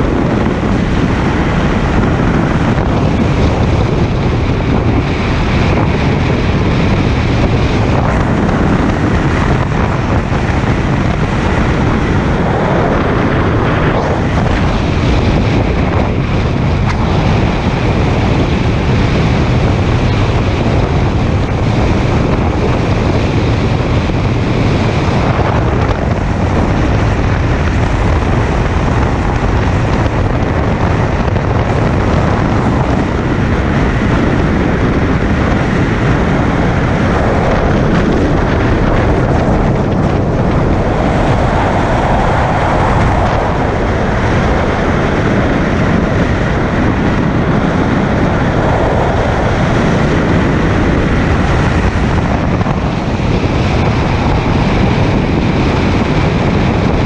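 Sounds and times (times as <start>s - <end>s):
tyre and road noise: 0.0s - 57.0s
wind noise on microphone: 0.0s - 57.0s.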